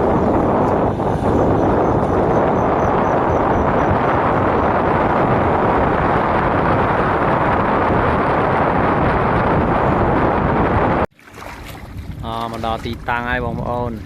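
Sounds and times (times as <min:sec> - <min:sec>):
boat motor running: 0:00.0 - 0:14.0
wind on microphone: 0:00.0 - 0:14.0.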